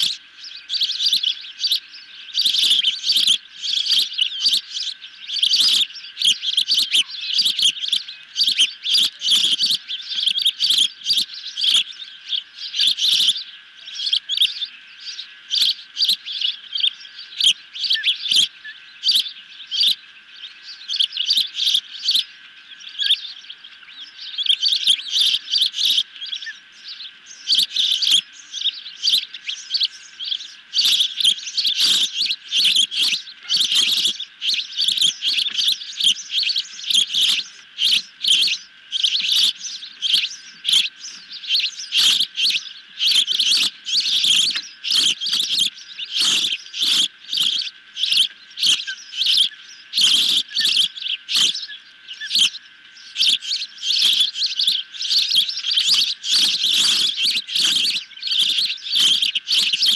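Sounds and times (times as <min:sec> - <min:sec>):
ospreys chirping: 0:00.0 - 0:59.9.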